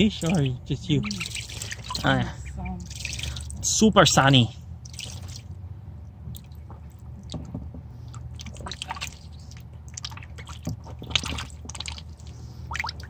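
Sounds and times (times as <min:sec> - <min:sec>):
ducklings splashing in water: 0:00.0 - 0:05.6, 0:06.3 - 0:13.0.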